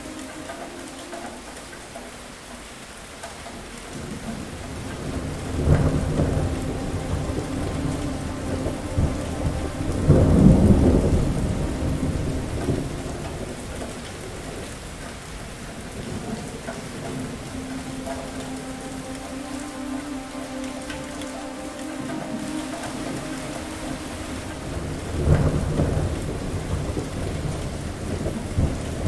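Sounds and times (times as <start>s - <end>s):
rain falling: 0.0s - 29.0s
thunder rumble: 3.9s - 29.0s.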